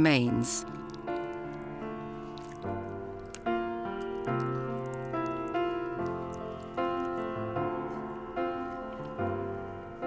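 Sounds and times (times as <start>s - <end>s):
gentle piano chords: 0.0s - 10.0s.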